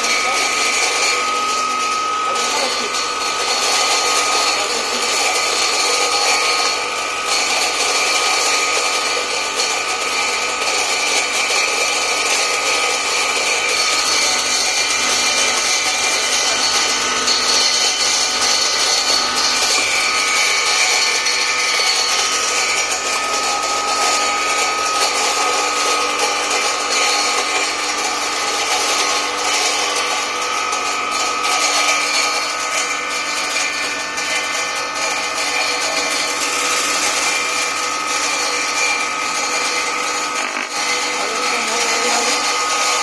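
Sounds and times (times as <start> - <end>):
grain mill grinding with whine: 0.0 - 43.0.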